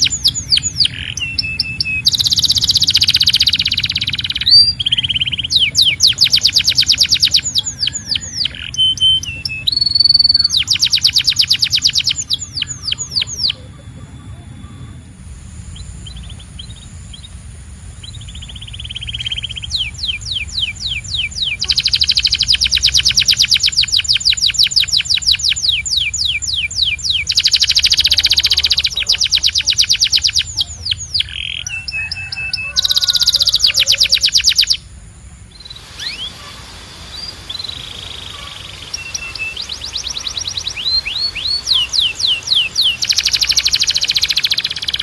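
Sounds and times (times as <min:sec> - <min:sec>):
canary singing trills: 0:00.0 - 0:45.0
faint low hum: 0:00.0 - 0:45.0.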